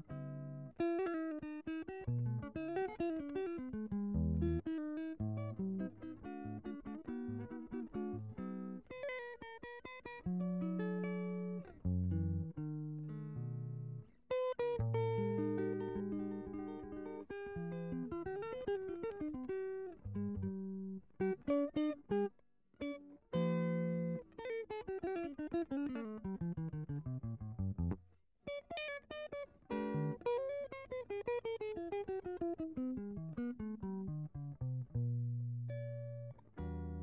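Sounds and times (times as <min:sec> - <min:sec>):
solo plucked guitar: 0:00.0 - 0:37.0.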